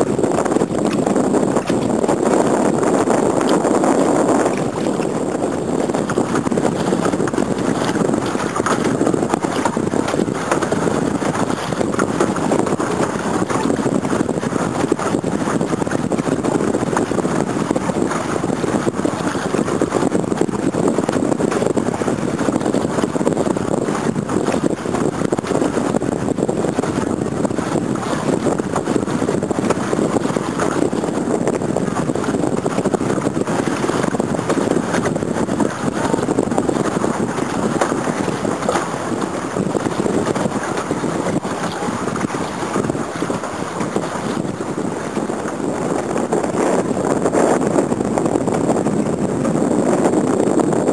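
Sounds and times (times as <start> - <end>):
choppy lake water: 0.0 - 50.9
wind rushing: 0.0 - 50.9.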